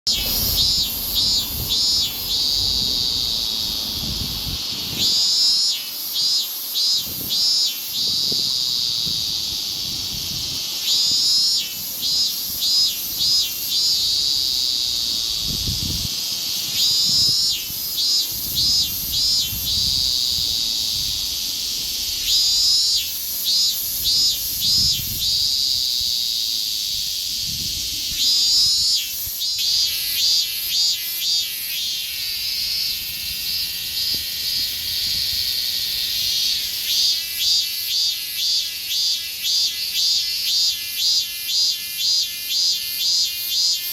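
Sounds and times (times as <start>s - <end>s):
cicada pulsing call: 0.1s - 43.9s
steady cicada buzz: 0.1s - 43.9s.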